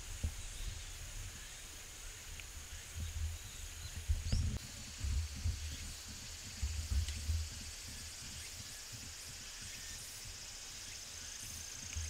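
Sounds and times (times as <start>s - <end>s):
high insect drone: 0.0s - 12.0s
wind rumbling on microphone: 0.0s - 12.0s.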